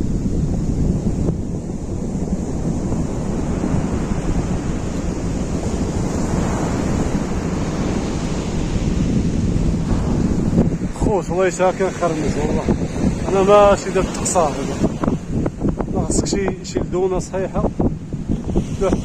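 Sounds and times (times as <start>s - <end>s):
sea surf washing onto beach: 0.0s - 19.0s
wind buffeting microphone: 0.0s - 19.0s.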